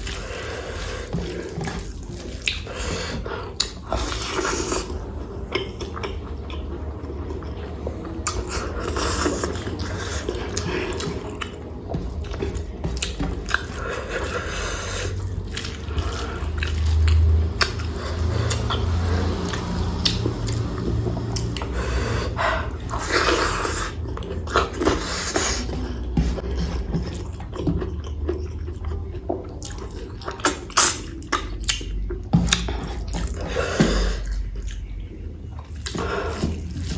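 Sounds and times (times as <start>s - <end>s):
person chewing food: 0.0s - 36.9s
steady low rumble: 0.0s - 36.9s.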